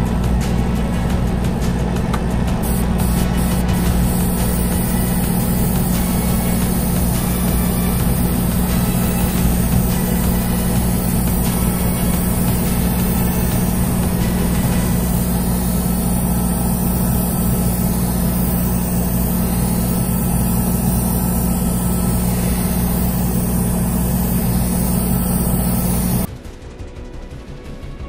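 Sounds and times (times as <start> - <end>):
electric motor hum: 0.0 - 26.3
airbrush hiss: 2.6 - 26.3.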